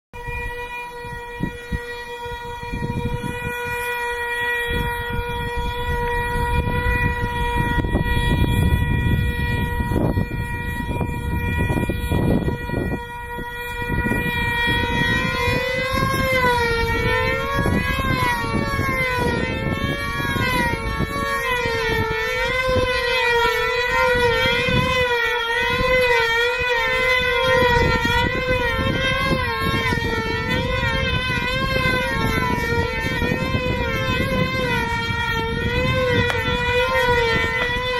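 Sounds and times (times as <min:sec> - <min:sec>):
gusty low rumble: 0:02.4 - 0:03.7, 0:04.7 - 0:37.9.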